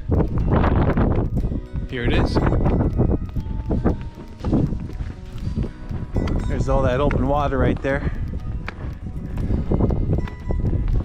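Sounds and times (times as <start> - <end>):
background music: 0.0 - 11.0
wind buffeting microphone: 0.0 - 11.0.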